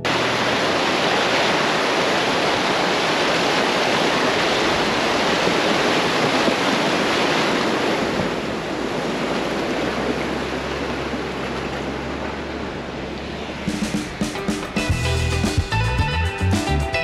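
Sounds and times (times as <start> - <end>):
rushing creek water splashing: 0.0 - 15.9.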